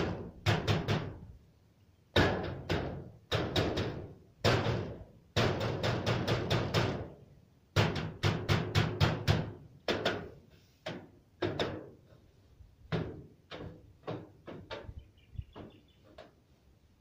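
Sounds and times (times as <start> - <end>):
tool knocking and scraping in gutter: 0.0 - 1.3, 2.1 - 16.5.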